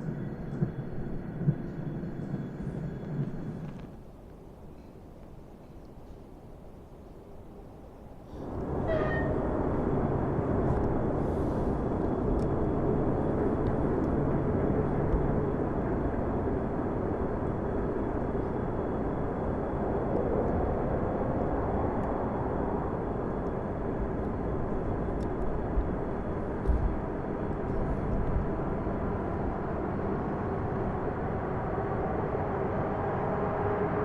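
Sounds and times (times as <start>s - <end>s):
faint steady whine: 0.0s - 34.0s
train rolling rumble: 0.0s - 34.0s.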